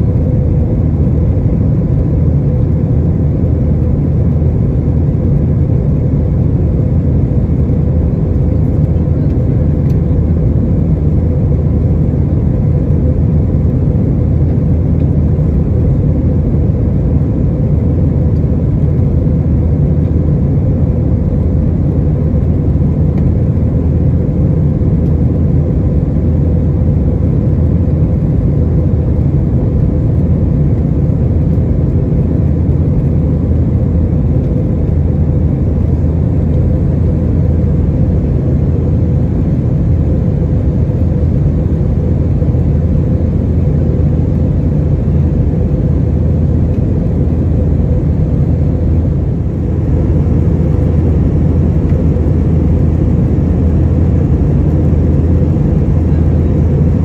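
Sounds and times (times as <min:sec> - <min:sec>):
aircraft cabin engine rumble: 0:00.0 - 0:57.0
faint hum: 0:00.0 - 0:57.0.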